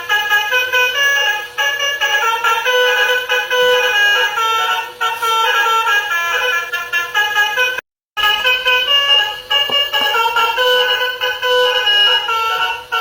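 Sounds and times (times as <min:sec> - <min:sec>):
truck horn playing a tune: 0:00.0 - 0:13.0.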